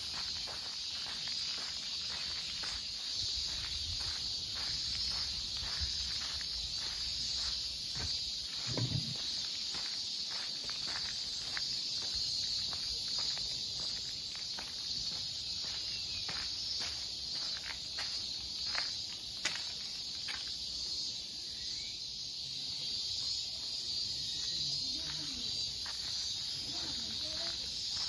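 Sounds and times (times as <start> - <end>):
footsteps on gravel: 0.0 - 20.6, 24.9 - 28.0
high-pitched insect chorus: 0.0 - 28.0.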